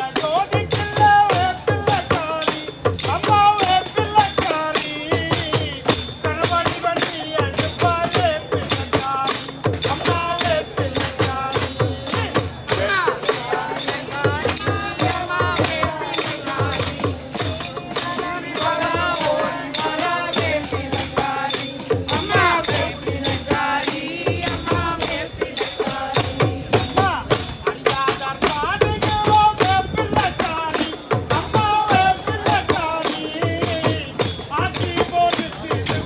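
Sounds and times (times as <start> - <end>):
barrel drum: 0.0 - 36.0
group singing: 0.0 - 36.0
hand cymbals: 0.0 - 36.0
tambourine jingling: 0.0 - 36.0.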